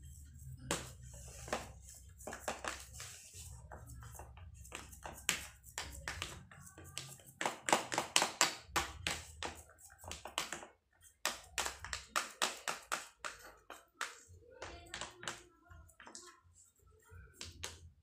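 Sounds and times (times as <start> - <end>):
hands patting dough: 0.0 - 16.3.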